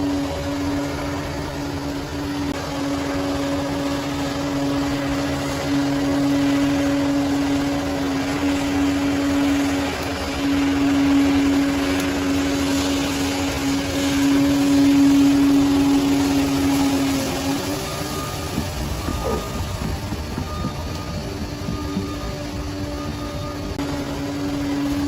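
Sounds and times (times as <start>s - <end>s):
bulldozer diesel engine: 0.0s - 25.0s
constant whine: 0.0s - 25.0s.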